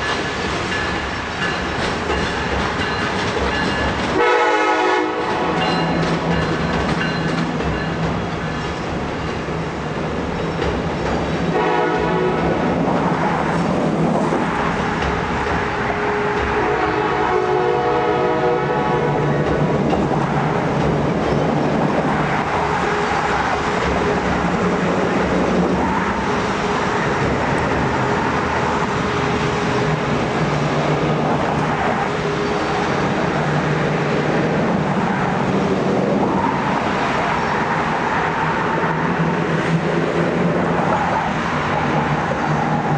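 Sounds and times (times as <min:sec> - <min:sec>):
diesel locomotive engine drone: 0:00.0 - 0:42.9
train wheels rumbling on rail: 0:00.0 - 0:42.9.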